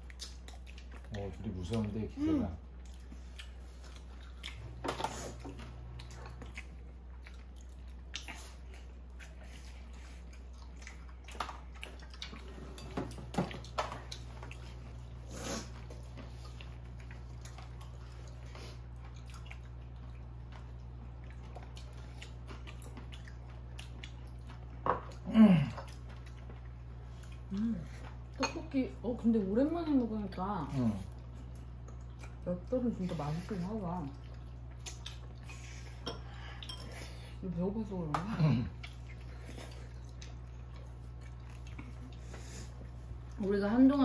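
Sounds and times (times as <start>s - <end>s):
people chewing food: 0.0s - 44.0s.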